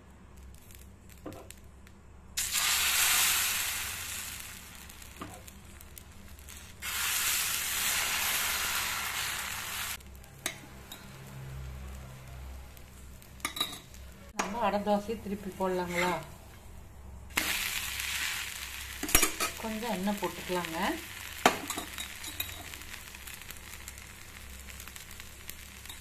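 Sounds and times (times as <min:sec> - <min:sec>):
batter sizzling on hot griddle: 0:00.0 - 0:26.0.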